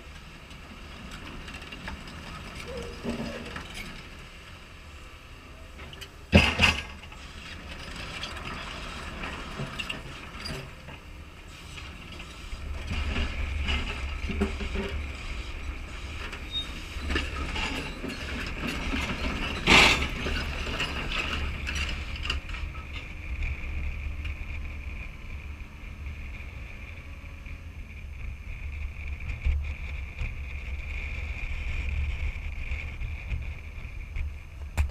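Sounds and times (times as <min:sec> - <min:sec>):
excavator diesel engine and hydraulics: 0:00.0 - 0:34.9.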